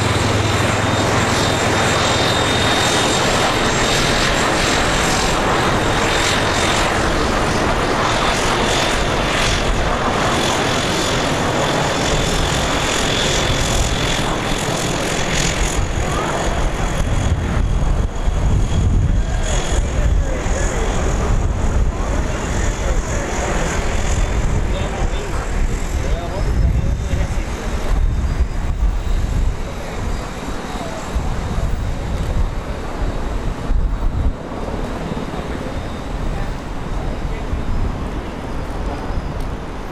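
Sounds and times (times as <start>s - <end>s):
aircraft rotor and engine noise: 0.0s - 39.9s
high turbine whine: 0.0s - 39.9s.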